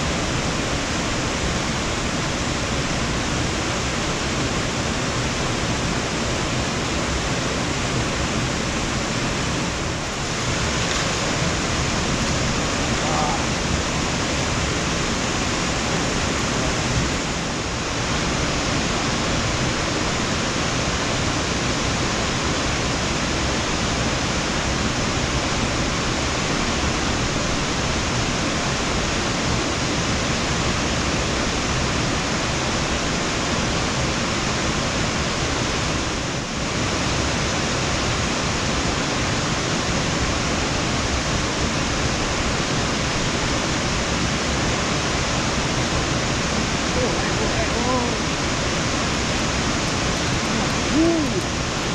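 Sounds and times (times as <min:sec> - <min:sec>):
steady noise hiss: 0:00.0 - 0:51.9.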